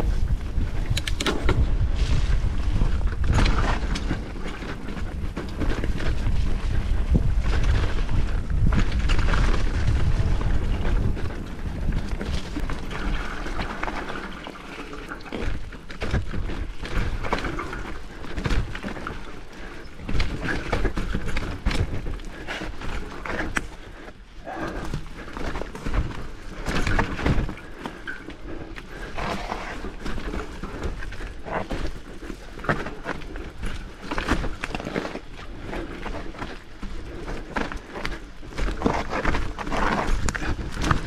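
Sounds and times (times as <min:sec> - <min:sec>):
bike knocking and rattling: 0:00.0 - 0:41.0
bike tyres on dirt trail: 0:00.0 - 0:41.0.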